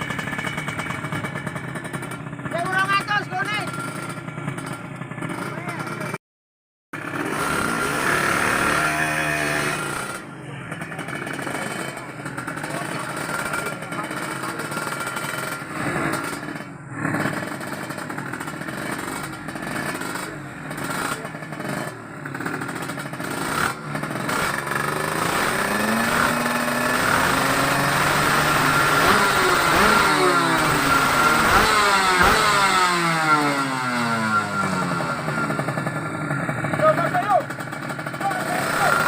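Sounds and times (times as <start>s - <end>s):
motorcycle engines revving: 0.0s - 6.2s, 7.0s - 39.0s.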